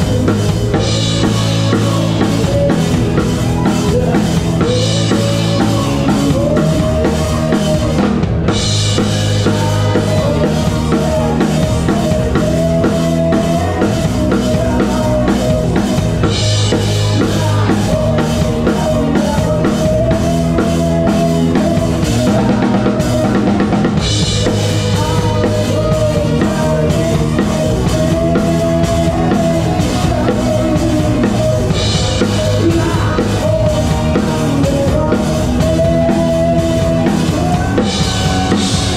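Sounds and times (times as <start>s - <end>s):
live band playing: 0.0s - 38.9s.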